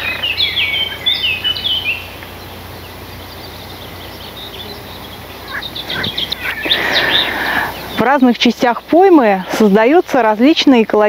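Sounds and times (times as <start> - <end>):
faint bird chirps: 0.0 - 10.2
low steady background: 0.0 - 11.0
songbird singing: 0.0 - 11.0.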